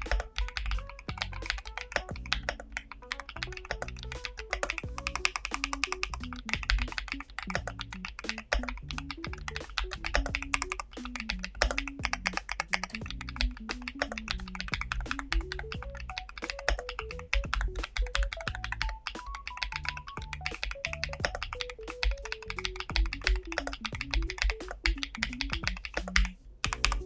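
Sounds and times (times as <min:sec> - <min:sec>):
fast mechanical keyboard typing: 0:00.0 - 0:27.0
soft background music: 0:00.0 - 0:27.0.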